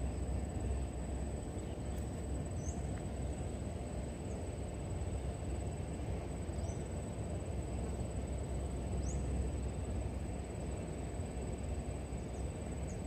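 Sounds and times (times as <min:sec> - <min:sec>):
faint high whine: 0:00.0 - 0:13.0
low outdoor rumble: 0:00.0 - 0:13.0.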